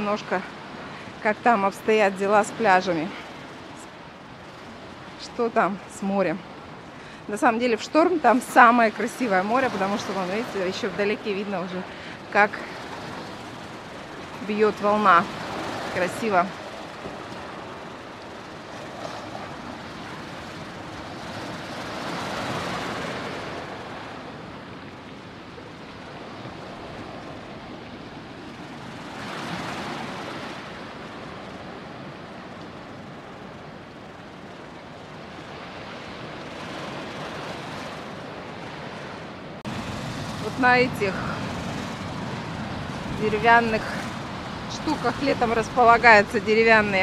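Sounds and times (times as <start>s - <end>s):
waves breaking on pebble beach: 0.2s - 33.8s, 34.5s - 47.0s.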